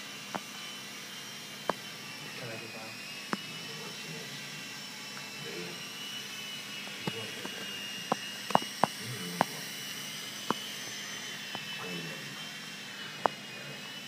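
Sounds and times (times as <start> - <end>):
rc helicopter whine: 0.0 - 14.0.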